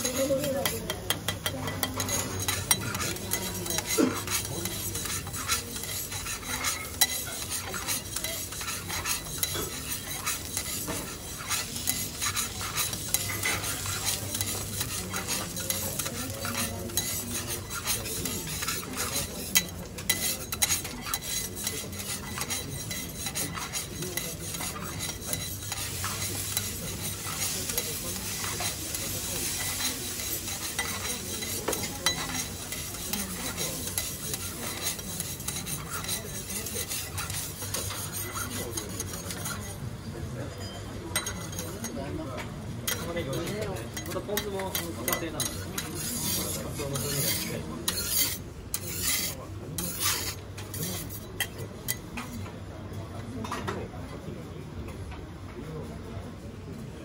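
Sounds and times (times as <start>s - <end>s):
food sizzling in oil: 0.0s - 39.8s, 42.9s - 51.6s
spatulas scraping on griddle: 0.0s - 52.4s.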